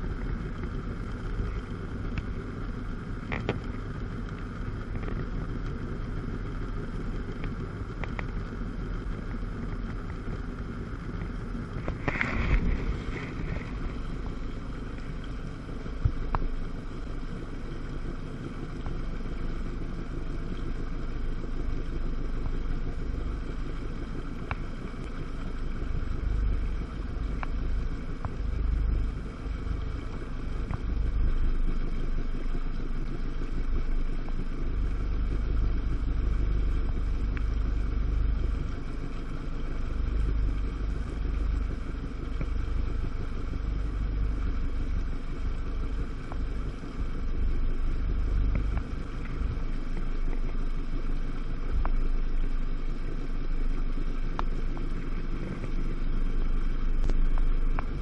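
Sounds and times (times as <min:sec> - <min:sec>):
watercraft engine running: 0:00.0 - 0:58.0.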